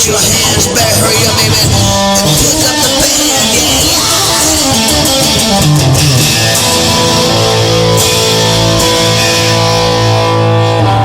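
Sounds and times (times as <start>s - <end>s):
bass guitar: 0.0s - 11.0s
electric guitar playing: 0.0s - 11.0s.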